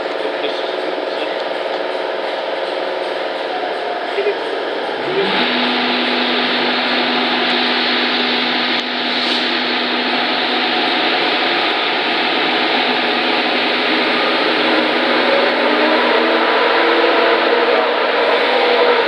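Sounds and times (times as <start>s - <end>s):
electric locomotive whirring hum: 0.0s - 19.0s.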